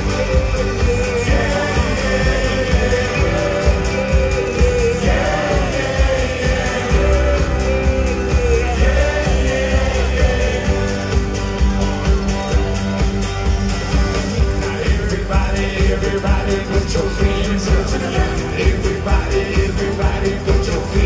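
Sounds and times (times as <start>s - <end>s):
lead singer singing: 0.0s - 11.4s, 14.4s - 21.0s
live rock band playing: 0.0s - 21.0s.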